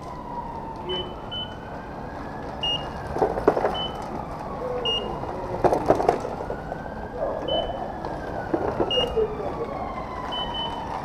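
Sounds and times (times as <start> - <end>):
bicycles rattling over cobblestones: 0.0 - 11.0
distant siren wailing: 0.0 - 11.0.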